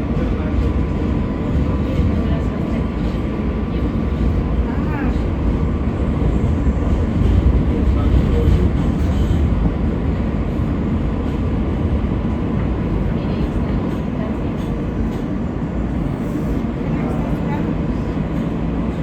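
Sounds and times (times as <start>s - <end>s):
subway train wheels rumbling on rails: 0.0s - 19.0s.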